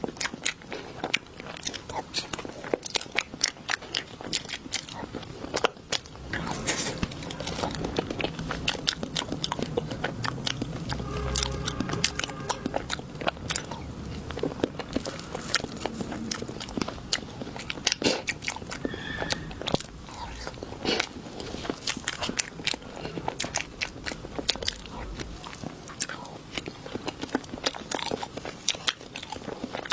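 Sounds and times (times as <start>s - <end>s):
person crunching and chewing food: 0.0s - 29.9s.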